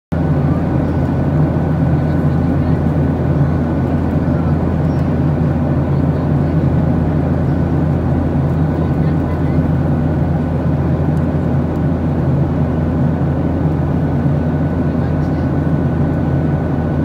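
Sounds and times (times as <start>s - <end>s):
jet engine and airflow rumble: 0.1s - 17.0s
faint steady whine: 0.2s - 17.0s.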